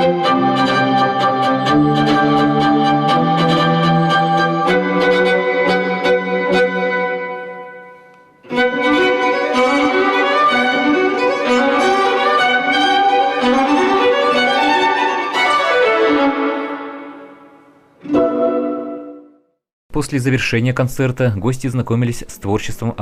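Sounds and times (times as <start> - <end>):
violin melody: 0.0 - 19.4.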